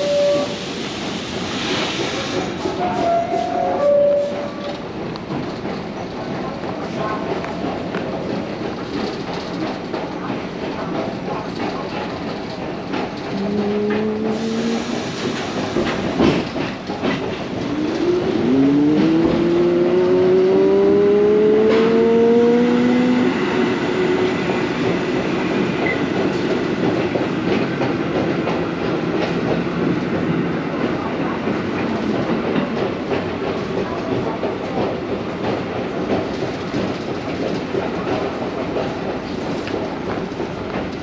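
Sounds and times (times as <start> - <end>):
wheels clattering on rails: 1.7 - 41.0.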